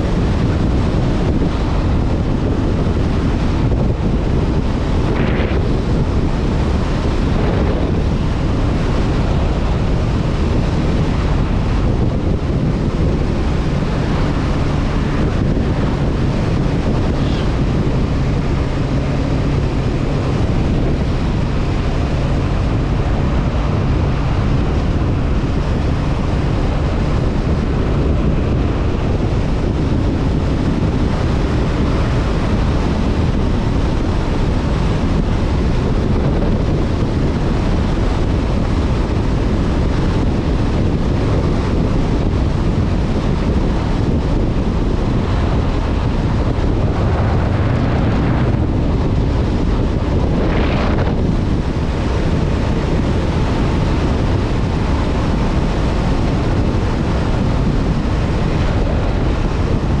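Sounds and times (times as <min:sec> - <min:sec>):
wind rushing over microphone: 0:00.0 - 1:00.0.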